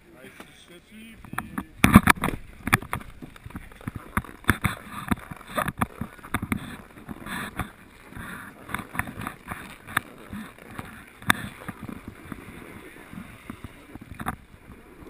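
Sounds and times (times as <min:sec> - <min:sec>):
skis scraping over snow: 0:02.4 - 0:15.0.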